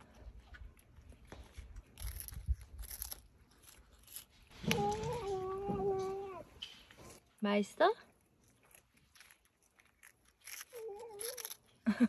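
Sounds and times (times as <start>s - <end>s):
cat crunching and chewing: 0.0s - 12.0s.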